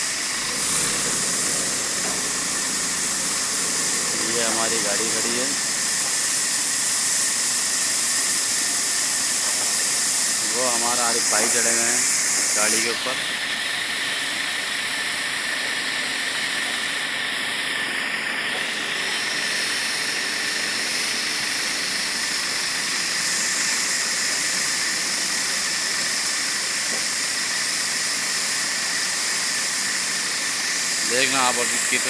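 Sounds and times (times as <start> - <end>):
machinery hiss: 0.0 - 32.0.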